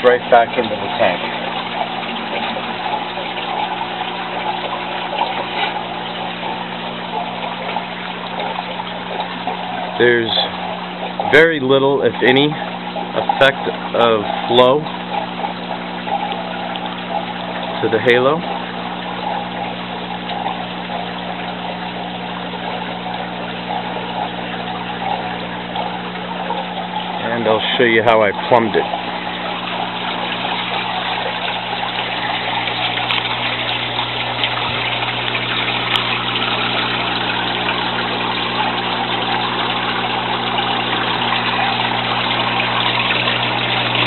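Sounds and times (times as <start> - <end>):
water pouring and splashing: 0.0 - 44.0.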